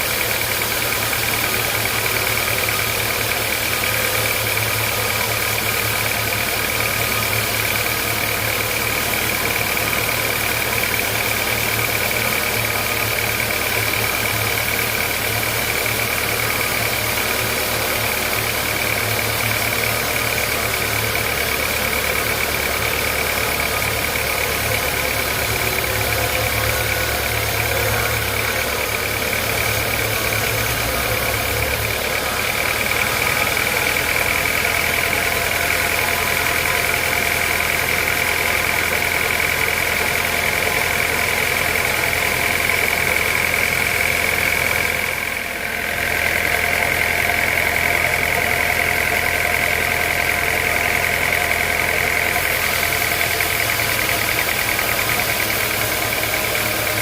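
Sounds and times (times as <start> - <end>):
sawmill machinery hum and whine: 0.0 - 57.0.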